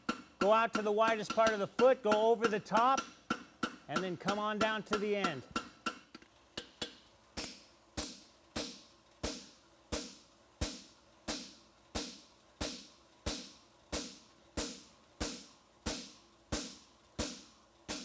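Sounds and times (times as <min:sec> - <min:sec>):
hammer striking metal on anvil: 0:00.0 - 0:18.0.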